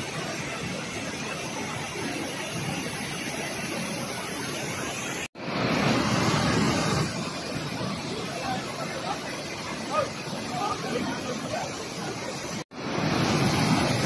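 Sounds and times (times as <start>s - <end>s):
water rushing from dam gate: 0.0s - 14.0s.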